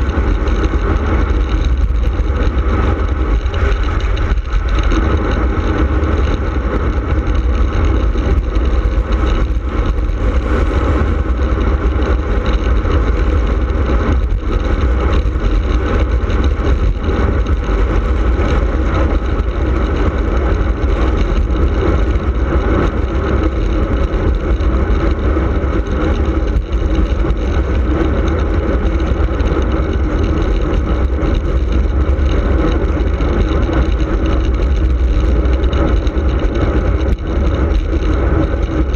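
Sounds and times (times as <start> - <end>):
road noise: 0.0 - 38.9
wind buffeting microphone: 0.0 - 38.9.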